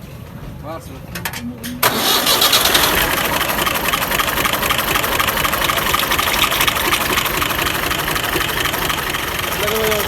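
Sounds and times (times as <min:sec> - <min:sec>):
engine idling: 0:01.8 - 0:10.0.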